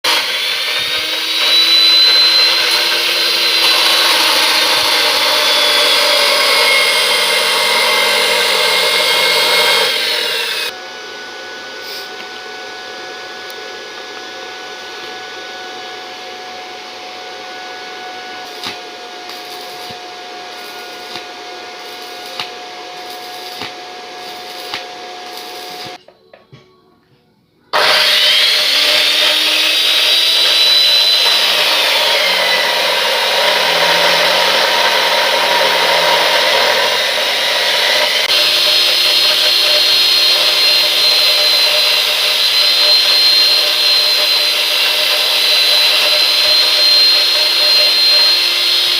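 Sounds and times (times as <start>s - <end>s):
welding machine rushing noise: 0.1s - 10.7s, 18.3s - 26.0s, 27.8s - 48.9s
welding machine hum and whine: 0.1s - 26.0s, 27.7s - 48.9s.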